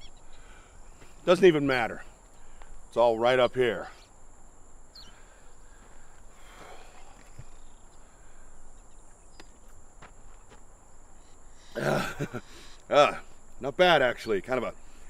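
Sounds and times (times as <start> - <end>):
insects humming: 0.0 - 15.0.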